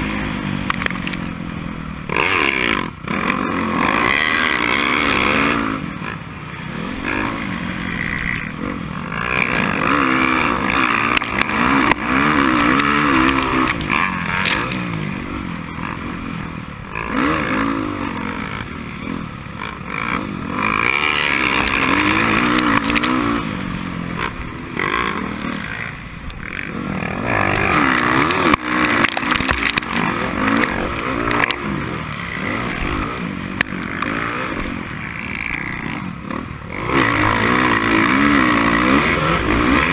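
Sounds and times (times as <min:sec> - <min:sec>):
racing motorcycle engine revving: 0:00.0 - 0:39.9
wind and track noise: 0:00.0 - 0:39.9.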